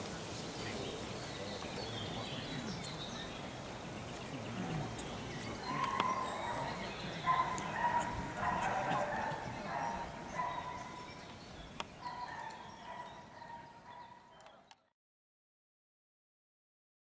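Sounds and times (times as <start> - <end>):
outdoor background noise: 0.0 - 14.9.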